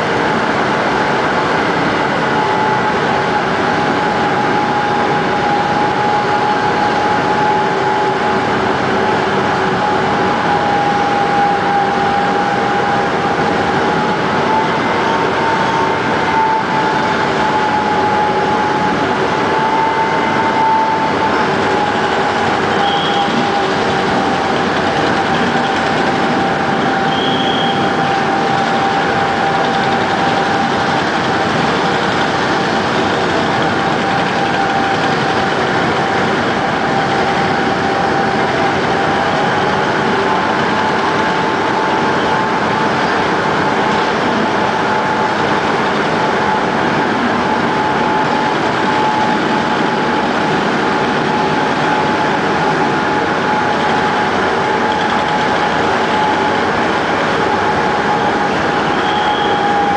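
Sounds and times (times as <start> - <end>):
steady high whine: 0.0 - 59.9
milling machine grinding asphalt: 0.4 - 59.9.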